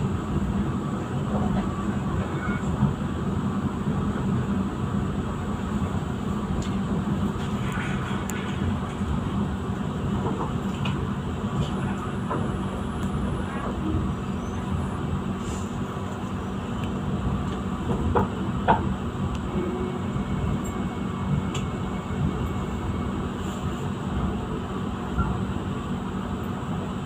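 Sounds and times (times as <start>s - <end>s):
train rumbling inside carriage: 0.0s - 27.0s.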